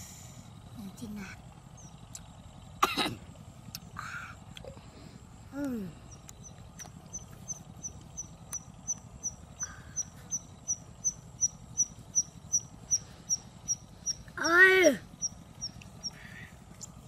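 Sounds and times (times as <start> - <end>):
small bird chirping: 0.4 - 17.0.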